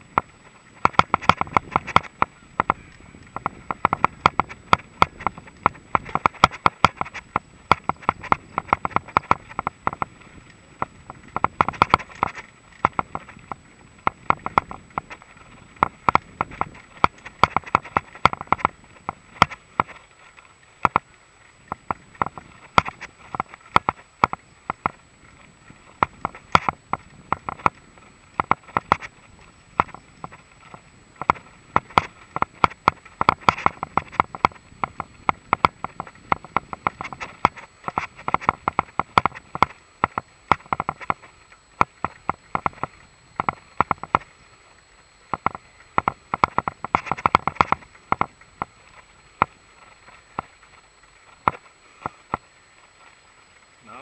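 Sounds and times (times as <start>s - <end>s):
mountain bike rattling: 0.0s - 53.9s.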